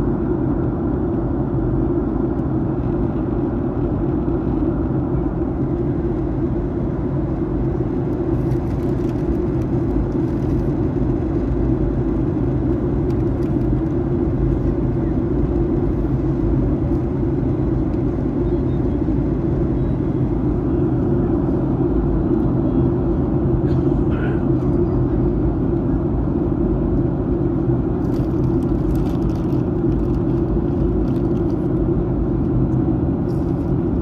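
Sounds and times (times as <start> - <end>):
jet engines humming: 0.0 - 34.0.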